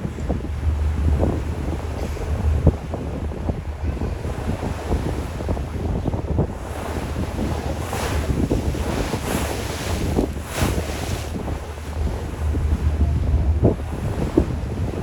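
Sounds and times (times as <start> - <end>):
low engine rumble: 0.0 - 15.0
sea wash rushing: 0.0 - 15.0
wind buffeting microphone: 0.0 - 15.0.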